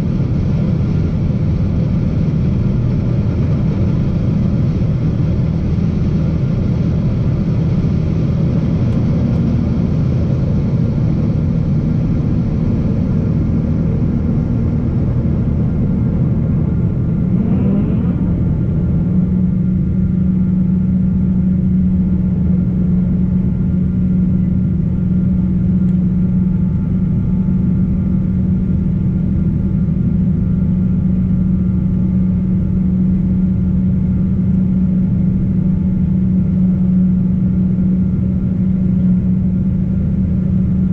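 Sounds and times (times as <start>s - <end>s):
jet engine rumble: 0.0s - 40.9s
steady low hum: 0.0s - 40.9s.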